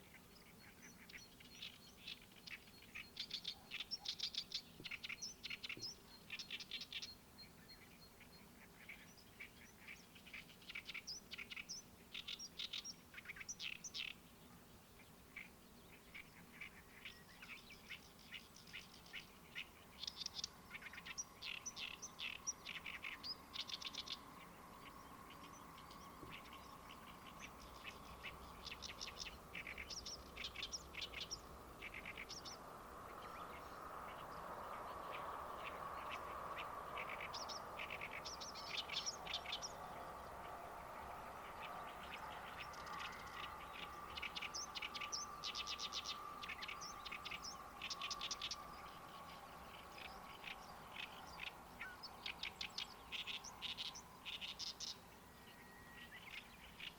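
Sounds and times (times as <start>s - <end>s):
faint steady hum: 0.0s - 56.9s
songbirds chirping: 0.0s - 56.9s.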